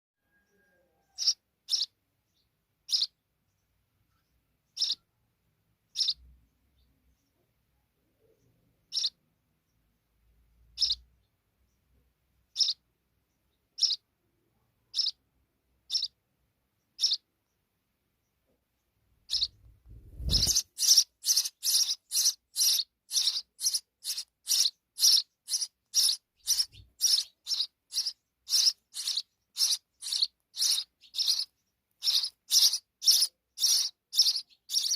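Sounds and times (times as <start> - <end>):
sparrow chirping: 0.2 - 34.9.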